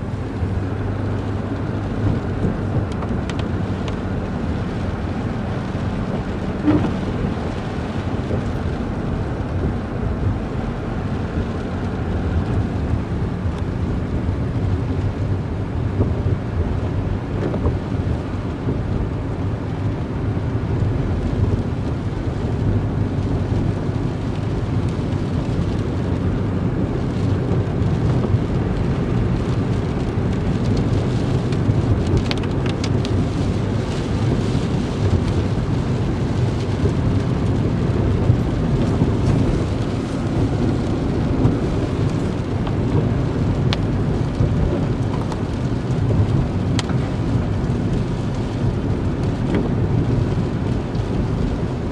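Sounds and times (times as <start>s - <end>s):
vehicle driving rumble: 0.0s - 51.9s.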